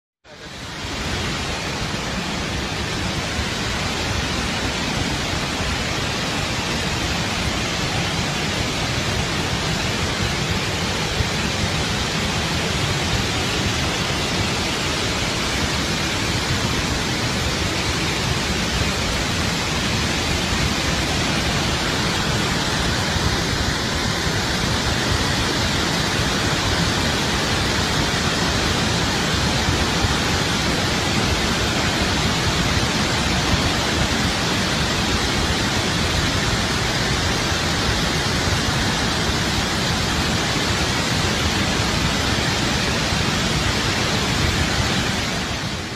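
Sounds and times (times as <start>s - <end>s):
floodwater rushing: 0.3s - 45.9s.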